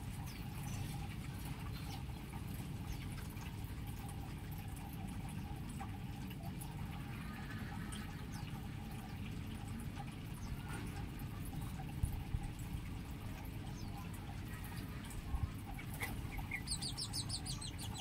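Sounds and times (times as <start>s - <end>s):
birds chirping: 0.0s - 3.5s, 6.8s - 18.0s.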